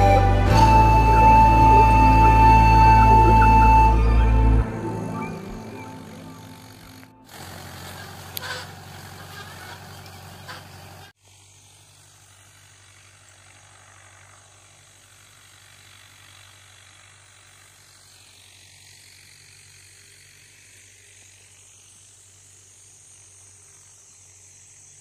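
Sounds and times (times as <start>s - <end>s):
distant tractor engine drone: 0.0s - 25.0s
high insect buzz: 1.5s - 25.0s.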